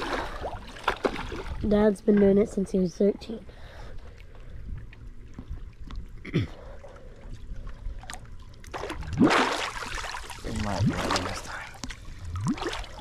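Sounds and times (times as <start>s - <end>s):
water lapping: 0.0s - 13.0s.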